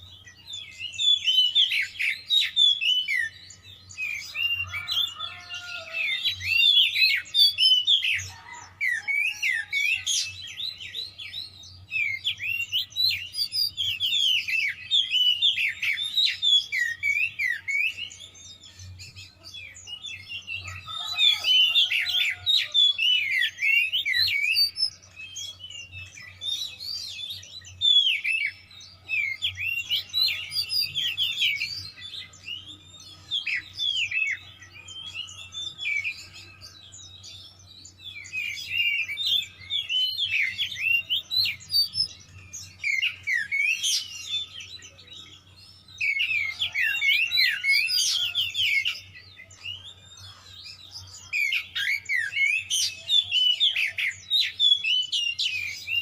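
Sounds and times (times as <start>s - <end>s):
songbird singing whistled phrases: 0.0s - 56.0s.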